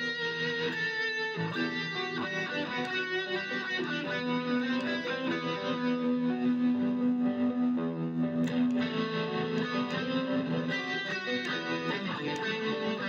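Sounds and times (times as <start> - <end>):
electric guitar melodic line: 0.0 - 13.0.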